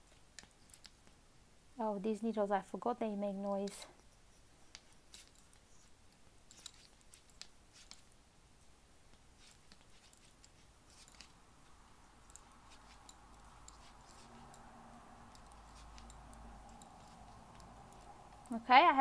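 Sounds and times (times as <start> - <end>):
knitting needles clicking: 0.0 - 1.2, 3.1 - 8.3, 9.1 - 19.0.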